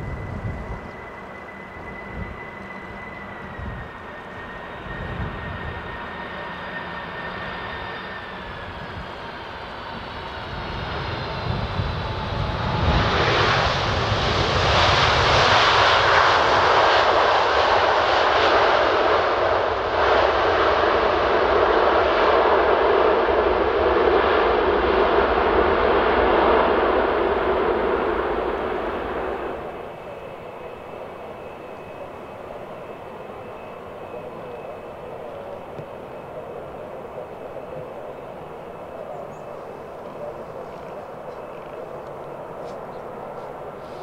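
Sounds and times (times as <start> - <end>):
jet engine roar: 0.0 - 44.0
jet engine whine: 0.0 - 44.0.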